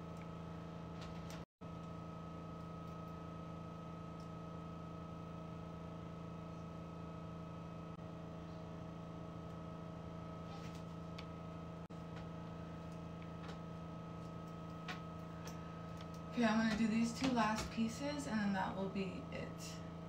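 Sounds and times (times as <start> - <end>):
room tone hum: 0.0 - 20.0.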